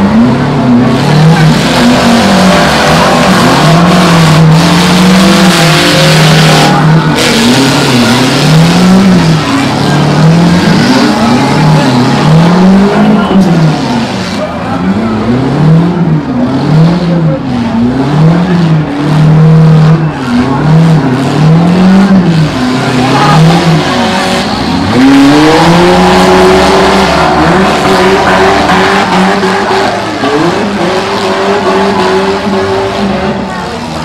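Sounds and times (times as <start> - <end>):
small car engines revving: 0.0 - 34.0.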